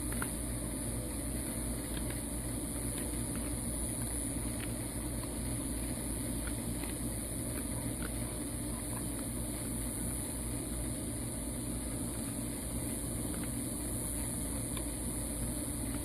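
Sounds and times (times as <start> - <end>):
dog chewing with crunching clicks: 0.0 - 16.0
low mechanical hum: 0.0 - 16.0.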